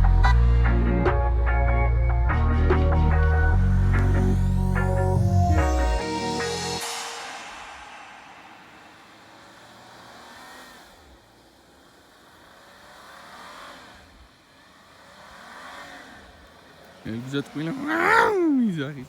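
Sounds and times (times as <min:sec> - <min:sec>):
engine revving faintly: 0:03.5 - 0:19.0.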